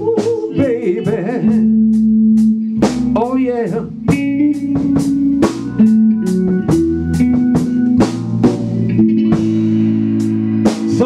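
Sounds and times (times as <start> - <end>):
bass line: 0.0 - 11.0
drum kit: 0.0 - 11.0
held chords: 0.0 - 11.0.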